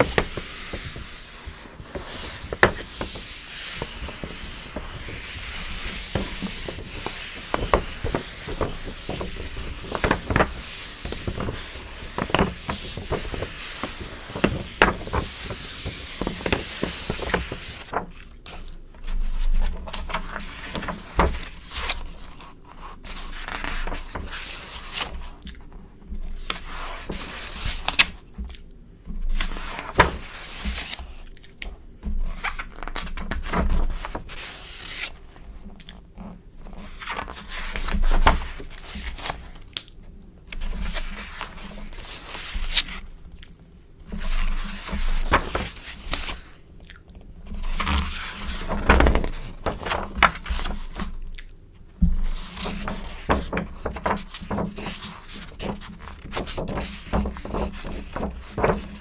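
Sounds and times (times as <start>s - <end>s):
magazine pages turning: 0.0s - 25.6s, 29.4s - 36.0s, 36.7s - 46.6s, 47.5s - 51.3s, 52.0s - 59.0s.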